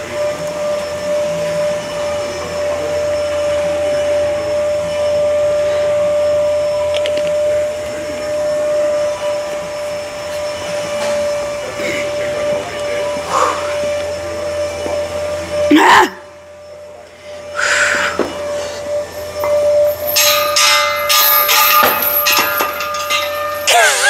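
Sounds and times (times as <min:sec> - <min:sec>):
motor drone with high whine: 0:00.0 - 0:24.0.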